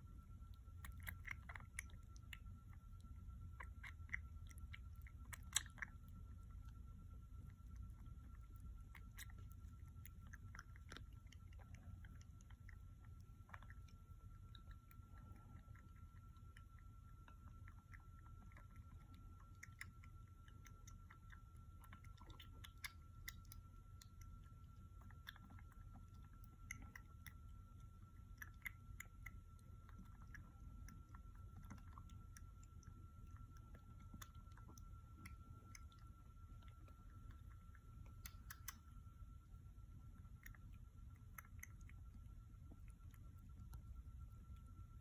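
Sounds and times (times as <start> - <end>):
kitten suckling from bottle: 0.1 - 44.8.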